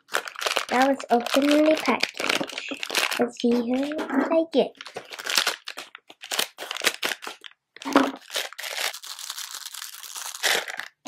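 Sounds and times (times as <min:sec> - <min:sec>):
scissors cutting plastic: 0:00.0 - 0:08.9, 0:10.4 - 0:10.9
plastic wrapper crinkling: 0:00.0 - 0:11.0.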